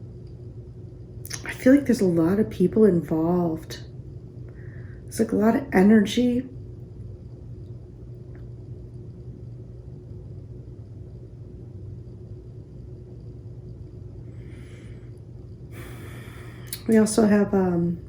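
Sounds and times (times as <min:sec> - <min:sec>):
faint steady tone: 0:00.0 - 0:18.0
low background hum: 0:00.0 - 0:18.0.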